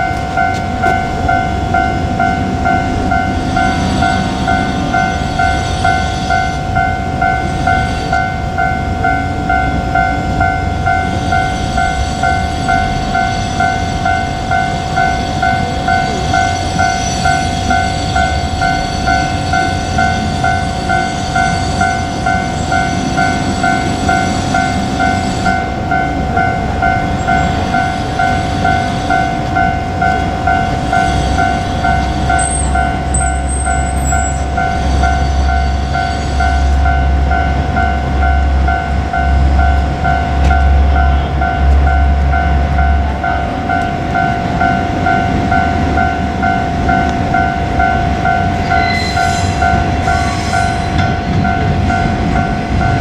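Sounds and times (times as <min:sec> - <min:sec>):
diesel train rumbling past: 0:00.0 - 0:53.0
level crossing bell ringing: 0:00.0 - 0:53.0.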